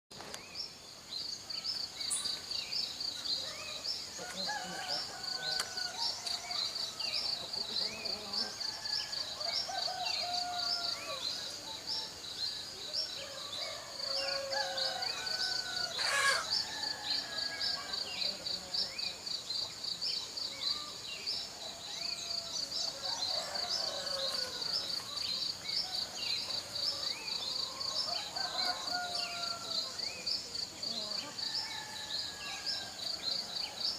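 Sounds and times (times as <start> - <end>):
insects chirping: 0.2 - 33.9.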